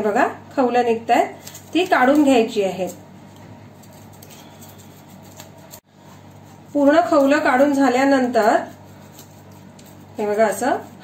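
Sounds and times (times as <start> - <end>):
knife scraping fish scales: 1.4 - 11.0.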